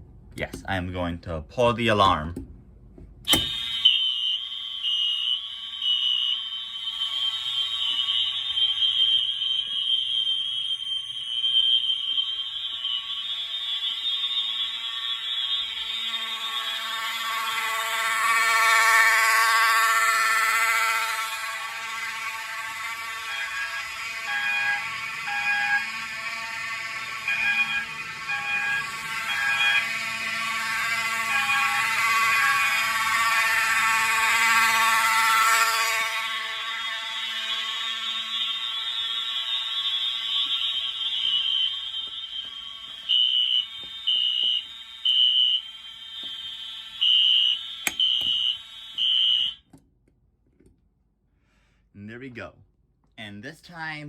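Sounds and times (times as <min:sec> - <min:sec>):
high continuous alarm tone: 0:03.3 - 0:49.7
lower alarm horn tone: 0:03.3 - 0:49.7.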